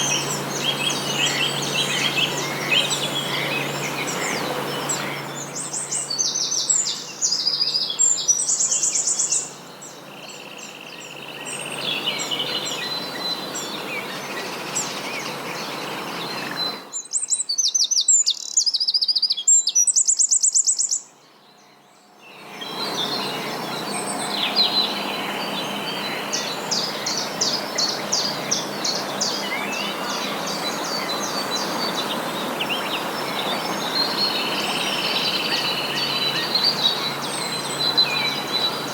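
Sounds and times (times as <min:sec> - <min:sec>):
outdoor background rush: 0:00.0 - 0:38.9
songbirds singing trills and chirps: 0:00.0 - 0:38.9.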